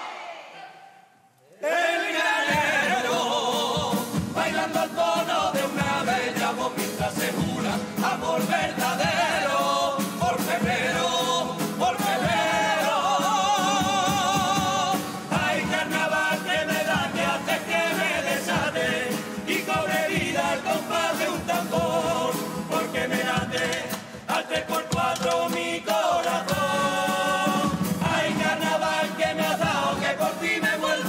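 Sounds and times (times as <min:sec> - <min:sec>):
men's chorus singing: 0:01.6 - 0:31.0
drum and cymbal beats: 0:02.3 - 0:31.0.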